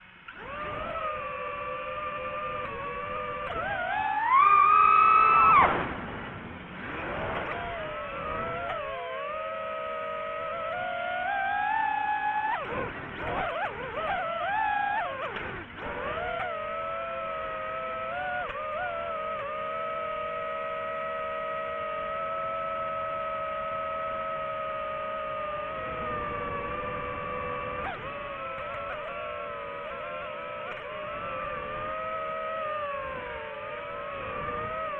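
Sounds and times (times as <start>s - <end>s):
drone propellers whining: 0.0s - 34.9s.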